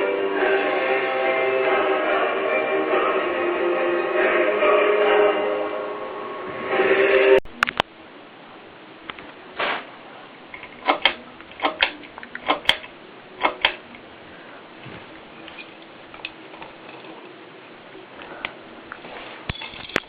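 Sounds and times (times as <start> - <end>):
ceiling fan humming: 0.0 - 20.0.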